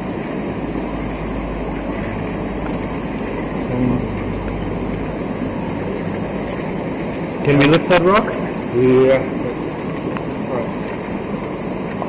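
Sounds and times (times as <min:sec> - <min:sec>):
pumps humming: 0:00.0 - 0:12.0
water streaming into tanks: 0:00.0 - 0:12.0.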